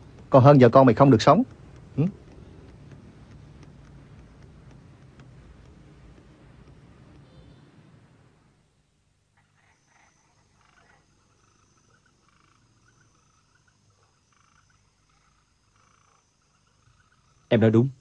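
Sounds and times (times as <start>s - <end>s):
high insect trill: 0.0s - 7.7s, 9.4s - 18.0s
frogs croaking: 0.0s - 8.4s, 9.4s - 18.0s.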